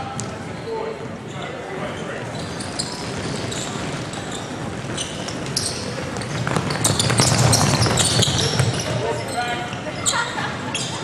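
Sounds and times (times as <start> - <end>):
sneaker squeaks: 0.0 - 11.0.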